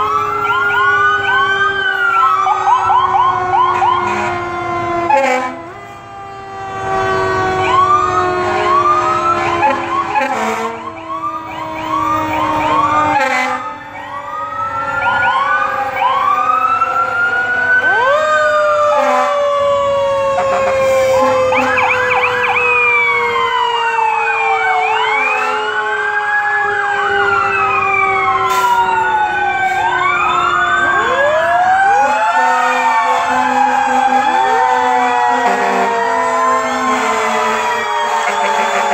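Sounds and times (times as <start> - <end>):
fire truck sirens wailing: 0.0 - 38.9.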